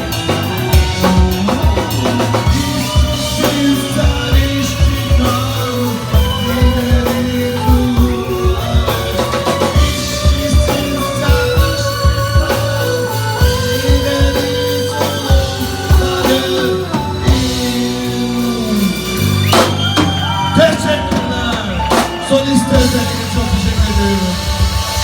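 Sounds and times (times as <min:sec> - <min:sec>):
rock music: 0:00.0 - 0:25.0.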